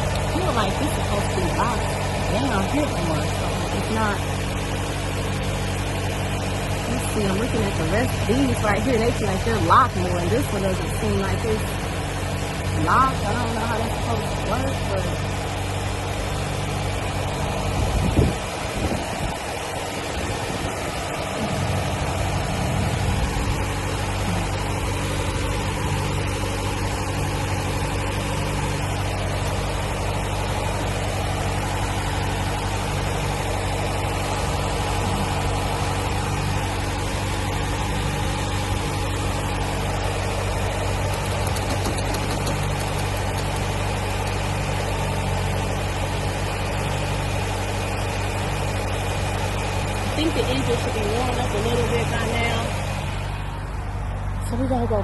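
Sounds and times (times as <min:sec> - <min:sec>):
car engine idling high: 0:00.0 - 0:55.0.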